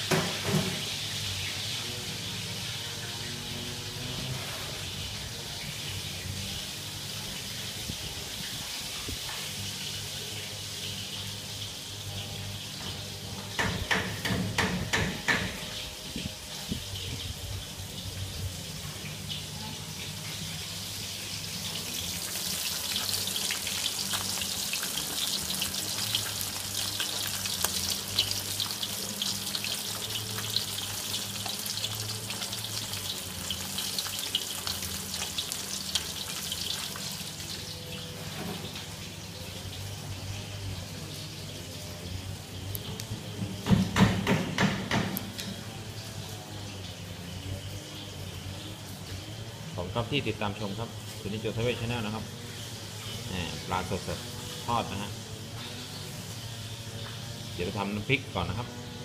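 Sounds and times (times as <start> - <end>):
fish sizzling in oil: 0.0 - 14.2, 14.8 - 58.1.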